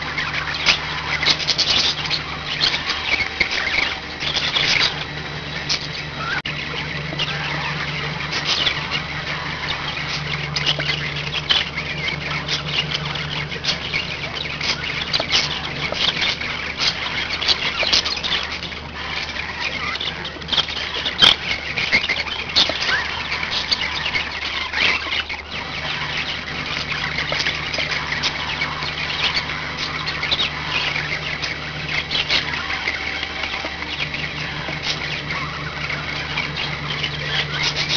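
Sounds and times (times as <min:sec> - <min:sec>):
budgerigars chattering and chirping: 0:00.0 - 0:37.9
low steady hum: 0:00.0 - 0:37.9.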